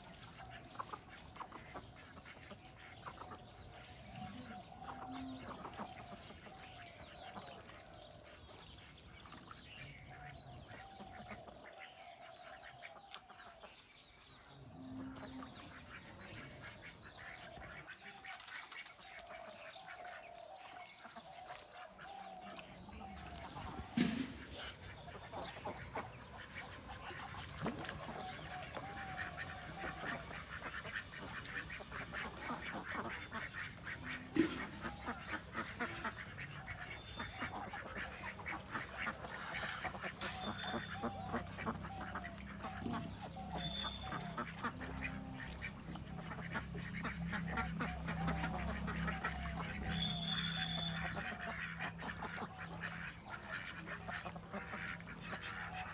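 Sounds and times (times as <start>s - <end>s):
birds calling: 0.0s - 55.9s.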